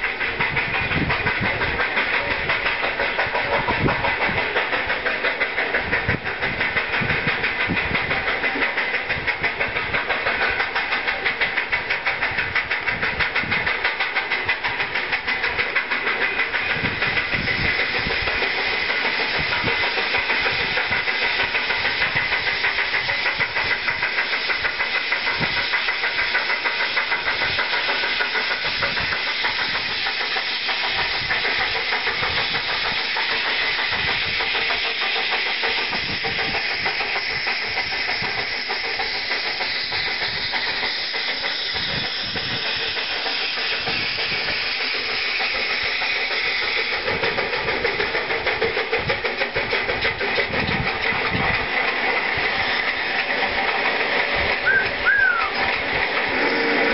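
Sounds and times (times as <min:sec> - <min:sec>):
steam hiss: 0:00.0 - 0:56.9
steam locomotive chuffing: 0:00.0 - 0:56.9.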